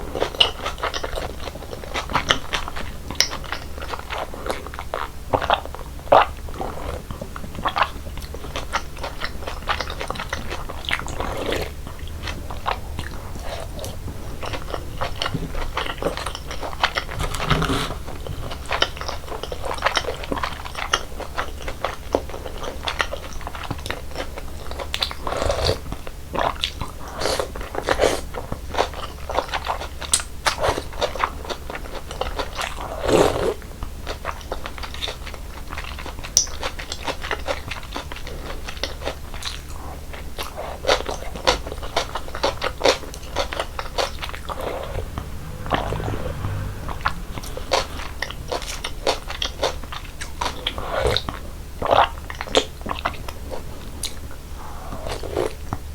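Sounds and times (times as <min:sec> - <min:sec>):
chewing and crunching noodles in ice: 0:00.0 - 0:45.1, 0:47.6 - 0:55.9.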